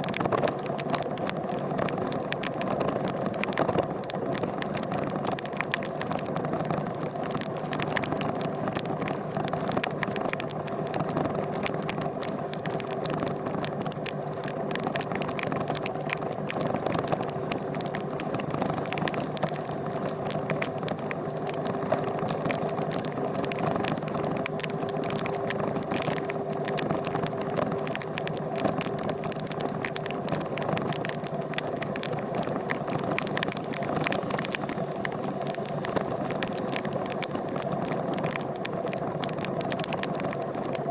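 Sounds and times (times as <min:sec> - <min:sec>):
constant rattle: 0:00.0 - 0:40.9
engine hum: 0:00.0 - 0:40.9
small scattered ticks: 0:00.0 - 0:40.9.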